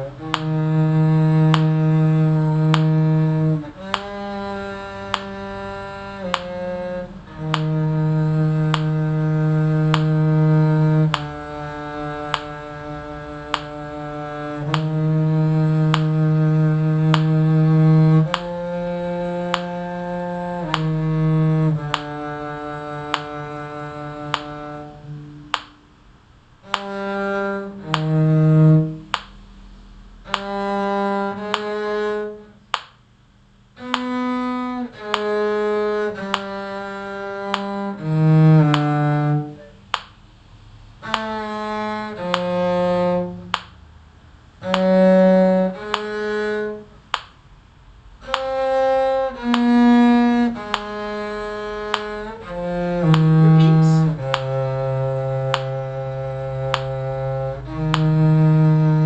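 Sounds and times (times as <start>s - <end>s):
muted bowed string melody: 0.0s - 32.9s, 33.7s - 59.0s.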